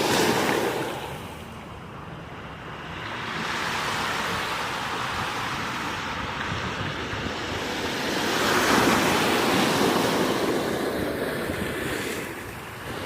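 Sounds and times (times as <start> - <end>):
waves breaking and washing in: 0.0 - 13.0
wind on microphone: 0.0 - 13.0.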